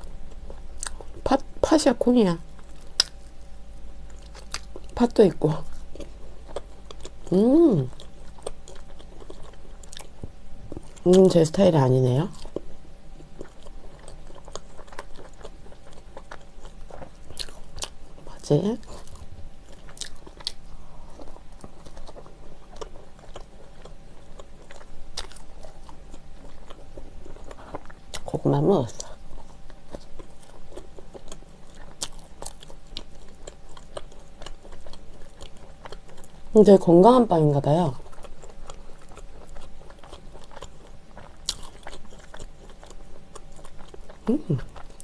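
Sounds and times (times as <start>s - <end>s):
chewing with mouth clicks: 0.0s - 1.4s, 2.5s - 11.4s, 12.3s - 36.5s, 37.9s - 45.0s.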